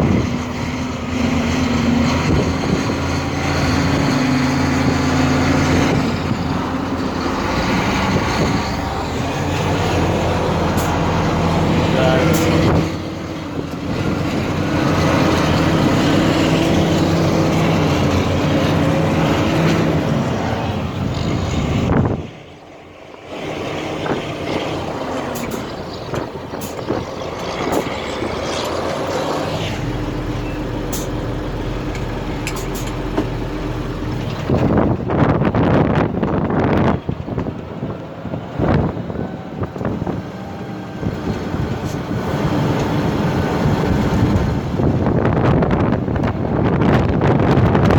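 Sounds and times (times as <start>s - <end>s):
truck engine running: 0.0s - 47.9s
wind buffeting microphone: 0.0s - 47.9s.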